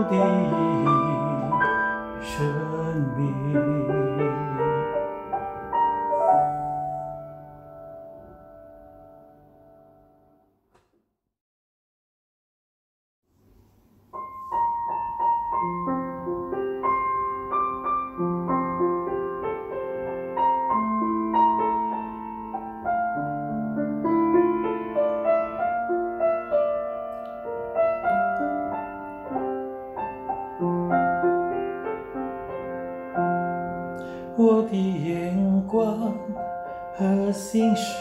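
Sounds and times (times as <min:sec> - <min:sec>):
piano melody over chords: 0:00.0 - 0:10.6, 0:13.9 - 0:38.0.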